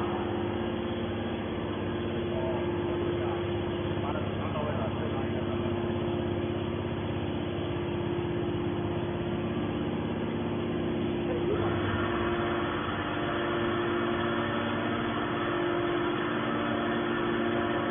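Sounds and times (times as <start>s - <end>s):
hydraulic pump and motor humming: 0.0s - 17.9s.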